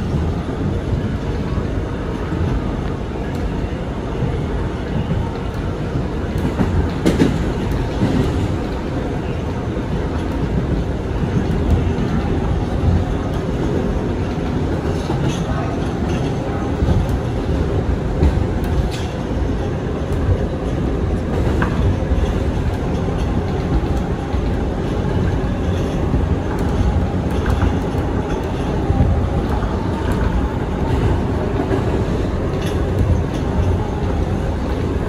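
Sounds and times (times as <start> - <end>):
subway train wheels rumbling on rail: 0.0 - 35.0.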